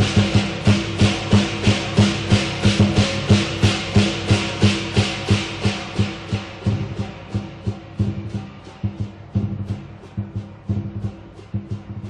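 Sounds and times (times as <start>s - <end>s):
big drum beating: 0.0s - 12.0s
cymbal clash: 0.0s - 12.0s.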